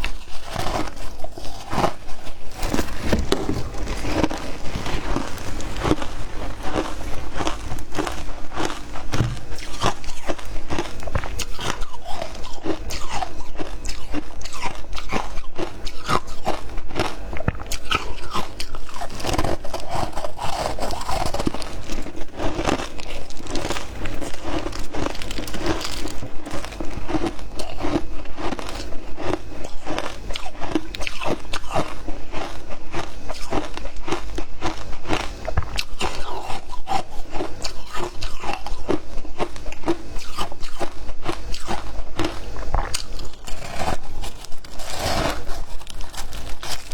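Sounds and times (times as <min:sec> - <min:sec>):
person crunching ice: 0:00.0 - 0:46.9.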